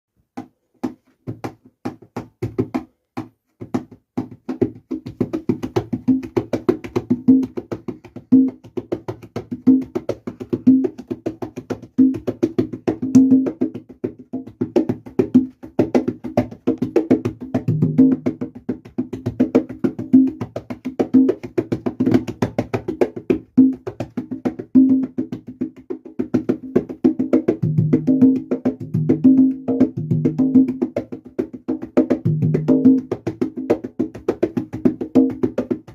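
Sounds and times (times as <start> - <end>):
congas playing: 0.4 - 35.9.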